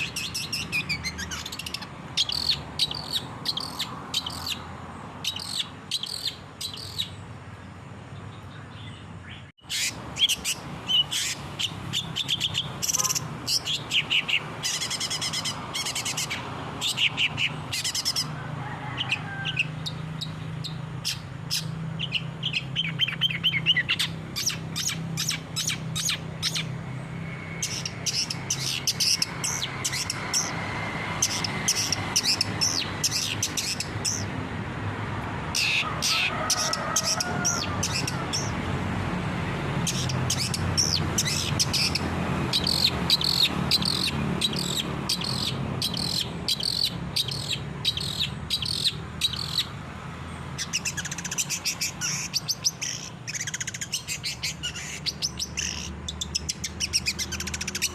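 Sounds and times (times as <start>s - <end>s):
bird chattering chirps: 0.0s - 7.3s, 8.3s - 18.4s, 19.0s - 26.8s, 27.5s - 34.3s, 35.5s - 38.6s, 39.8s - 49.8s, 50.5s - 57.9s.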